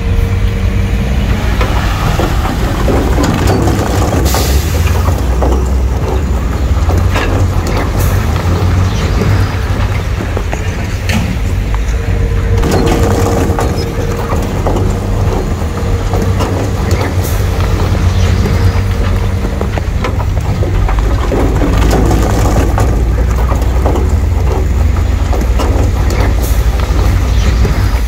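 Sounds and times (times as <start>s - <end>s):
heavy diesel machinery running: 0.0s - 28.0s
rock crunching and clattering: 1.2s - 28.0s.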